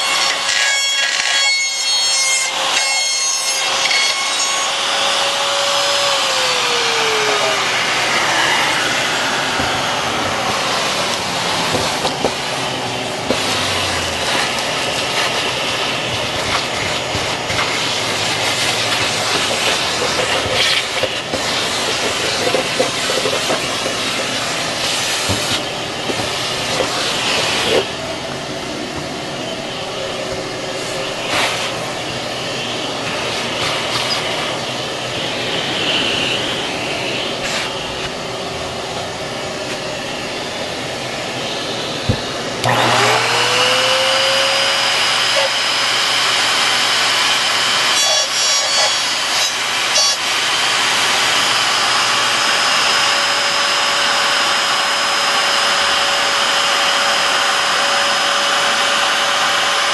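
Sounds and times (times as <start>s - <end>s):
electric router whine: 0.0s - 59.9s
shop vacuum running: 0.0s - 59.9s.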